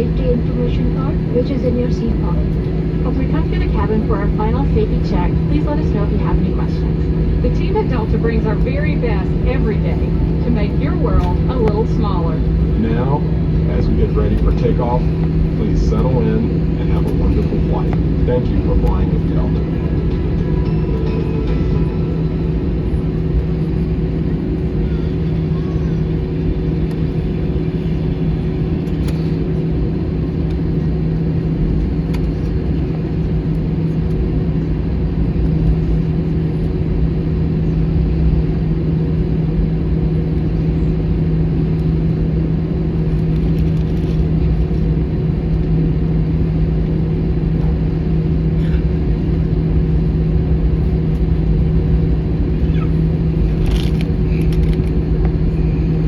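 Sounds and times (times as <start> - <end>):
air conditioning running: 0.0 - 56.0
aircraft cabin hum and rumble: 0.0 - 56.0.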